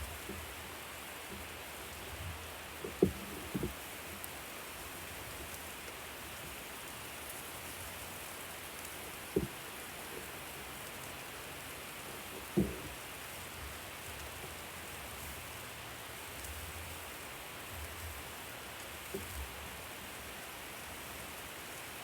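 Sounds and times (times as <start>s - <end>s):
food sizzling on barbecue grill: 0.0s - 22.0s.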